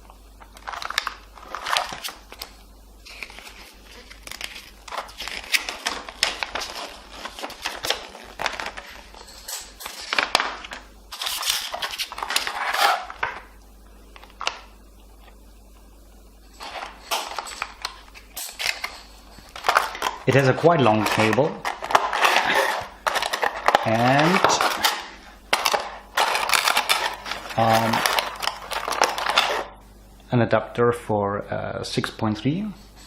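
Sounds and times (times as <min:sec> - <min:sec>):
plastic packaging crinkling: 0:00.0 - 0:15.4, 0:16.5 - 0:29.8.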